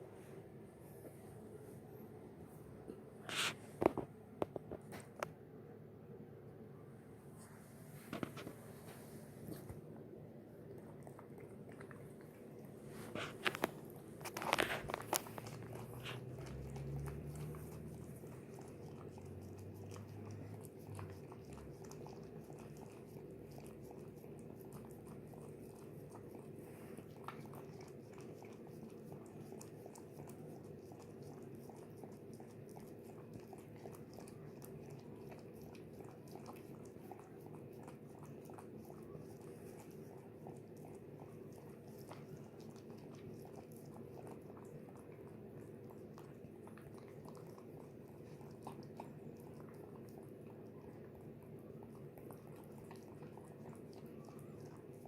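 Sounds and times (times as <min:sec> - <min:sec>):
low steady hum: 0:00.0 - 0:55.0
dog chewing wet clicks: 0:10.6 - 0:55.0.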